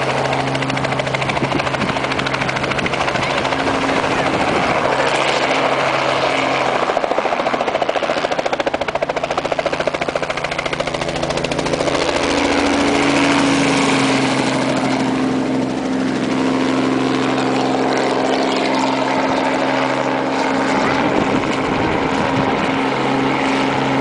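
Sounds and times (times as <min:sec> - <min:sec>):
helicopter rotor chopping: 0:00.0 - 0:24.0.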